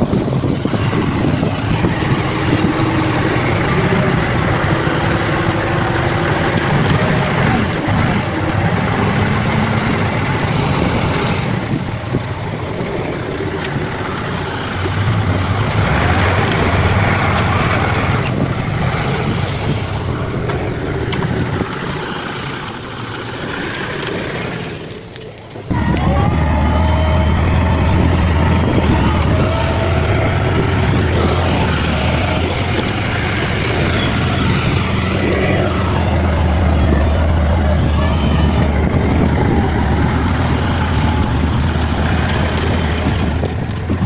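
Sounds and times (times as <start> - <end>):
bulldozer diesel engine working: 0.0 - 44.0.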